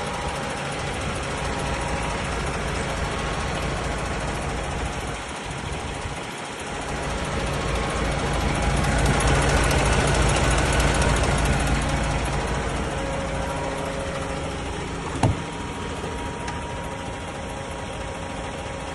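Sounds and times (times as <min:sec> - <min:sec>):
diesel truck engine running: 0:00.0 - 0:18.9.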